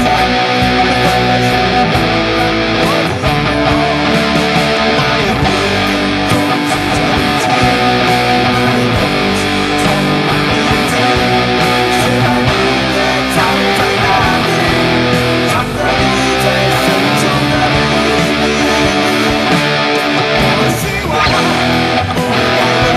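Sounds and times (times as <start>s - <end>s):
guitar-driven rock music: 0.0s - 22.9s.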